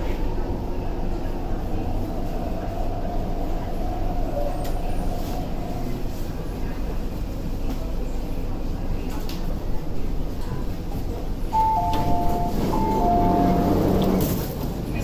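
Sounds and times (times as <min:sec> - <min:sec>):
train carriage low rumble: 0:00.0 - 0:15.0.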